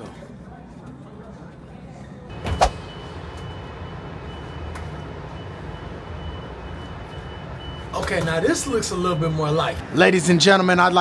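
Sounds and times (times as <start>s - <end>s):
low rumble of passing vehicles: 0.3s - 11.0s.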